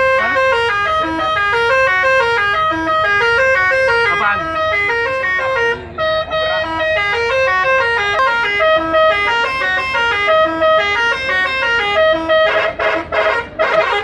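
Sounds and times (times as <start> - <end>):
musical air horn tune: 0.0 - 14.0.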